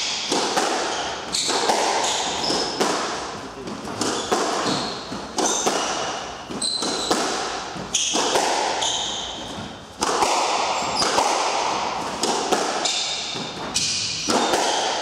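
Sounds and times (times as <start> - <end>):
squash ball cracking off rackets: 0.0 - 15.0
sneakers squeaking on wooden floor: 0.6 - 15.0.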